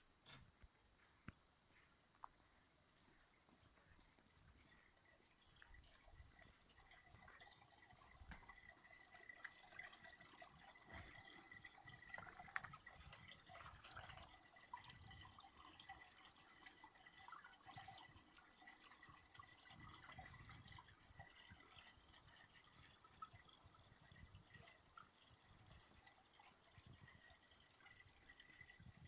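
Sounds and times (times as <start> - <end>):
water trickling and dripping: 1.0 - 29.0
small water splashes: 3.8 - 29.0.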